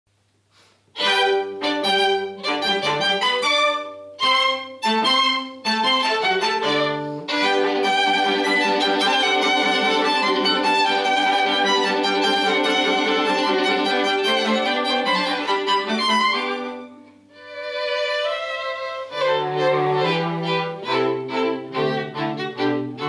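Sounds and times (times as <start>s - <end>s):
string quartet playing: 0.9s - 23.0s.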